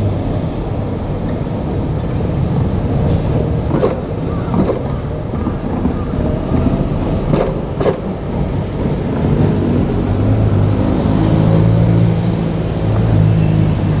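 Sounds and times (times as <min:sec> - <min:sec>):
steady low drone: 0:00.0 - 0:14.0
train passing rumble: 0:00.0 - 0:14.0.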